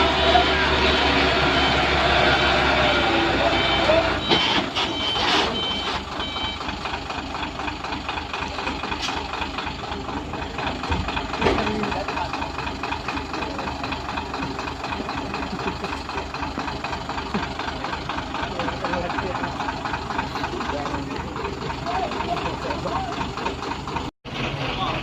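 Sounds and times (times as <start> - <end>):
truck reversing alarm beeps: 0.0 - 24.1
diesel truck engine clattering: 0.0 - 25.0.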